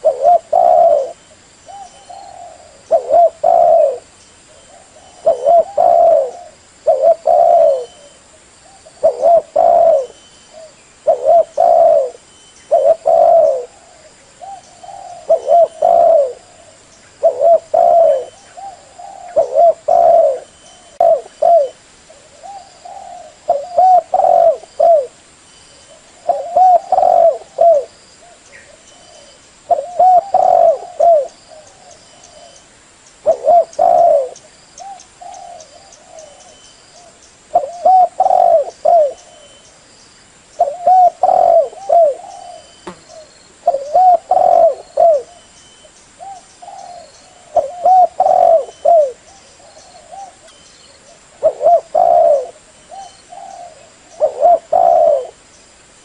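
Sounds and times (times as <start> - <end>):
dove cooing: 0.0 - 25.2, 25.9 - 32.6, 33.2 - 39.6, 40.6 - 45.5, 46.2 - 55.4.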